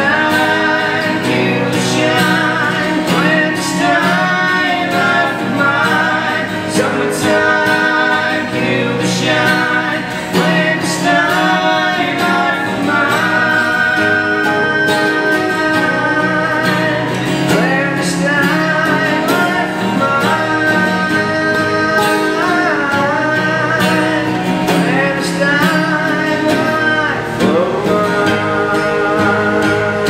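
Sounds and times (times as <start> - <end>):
live band playing a song: 0.0 - 30.0
person singing lead vocal: 0.0 - 30.0.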